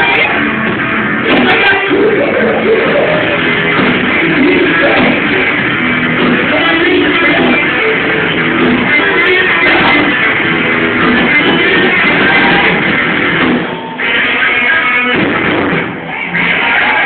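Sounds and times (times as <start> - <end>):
loud electric guitar: 0.0 - 17.0
rock band playing live: 0.0 - 17.0.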